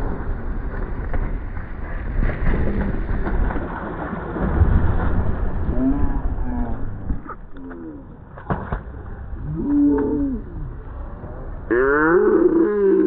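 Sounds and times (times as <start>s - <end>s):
water splashing down a slide: 0.0s - 10.7s
wind rumble on microphone: 0.0s - 13.0s.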